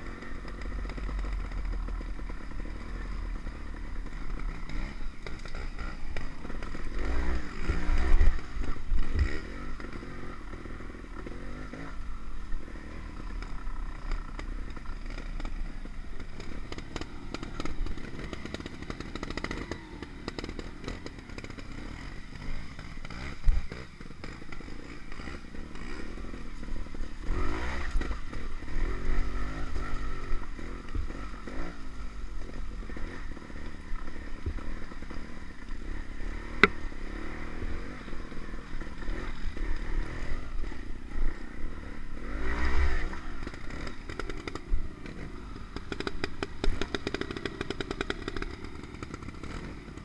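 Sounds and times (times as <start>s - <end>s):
bike rattling: 0.0s - 50.0s
motorcycle engine revving: 0.0s - 50.0s.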